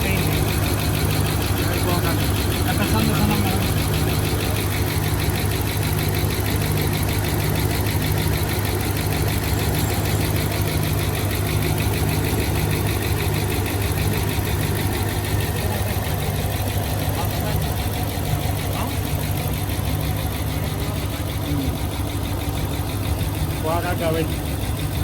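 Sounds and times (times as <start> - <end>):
engine idling: 0.0 - 25.0
valvetrain ticking: 0.0 - 25.0.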